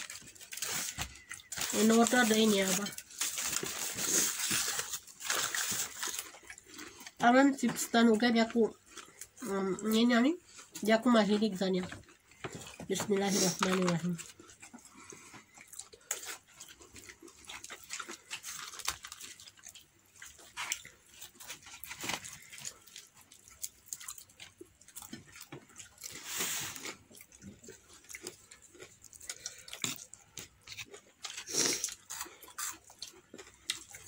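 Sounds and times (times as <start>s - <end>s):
chewing crispy fried chicken: 0.0s - 34.0s.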